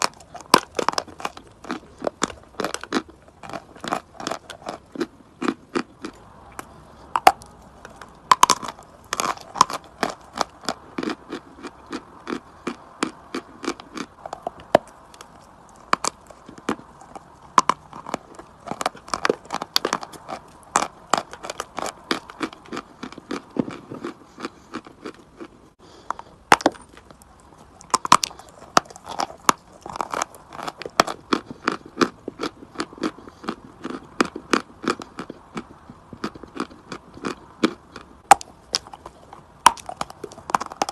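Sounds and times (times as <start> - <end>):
chalk crunching while chewed: 0.0 - 40.9.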